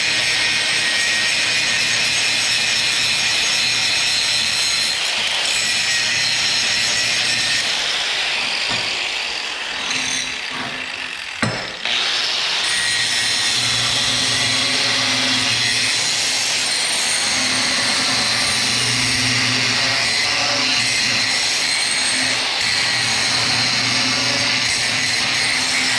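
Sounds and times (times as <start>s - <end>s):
grinder grinding steel: 0.0s - 25.9s.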